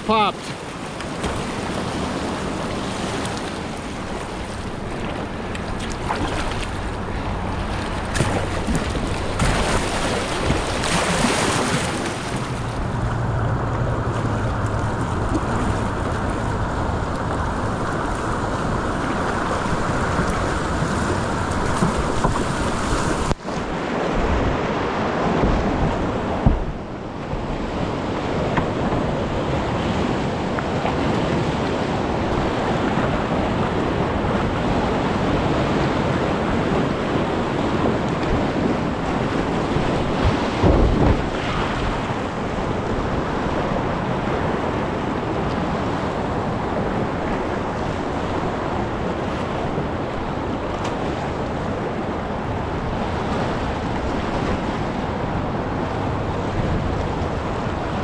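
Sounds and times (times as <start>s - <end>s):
whitewater rushing: 0.0s - 58.0s
wind buffeting microphone: 0.5s - 58.0s.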